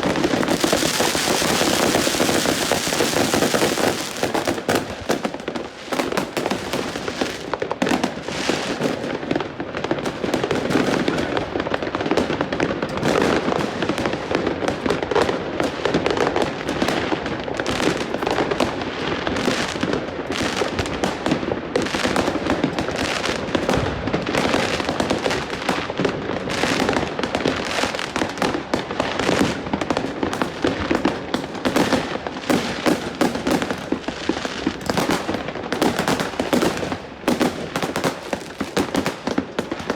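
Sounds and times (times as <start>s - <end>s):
fireworks and firecrackers exploding: 0.0s - 39.9s.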